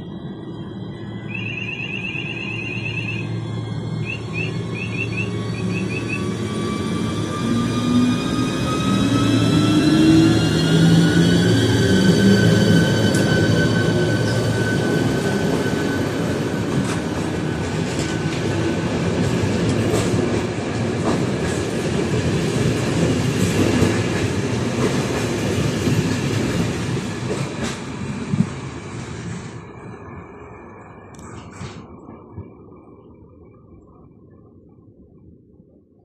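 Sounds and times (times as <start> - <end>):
train rumble: 0.0 - 36.0.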